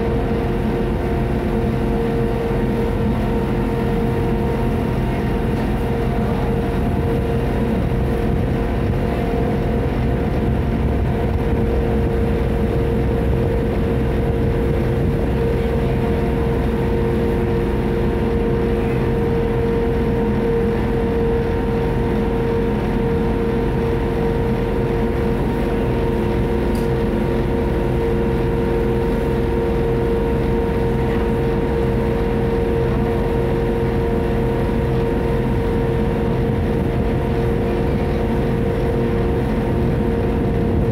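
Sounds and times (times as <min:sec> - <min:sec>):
ferry engine droning: 0:00.0 - 0:40.9.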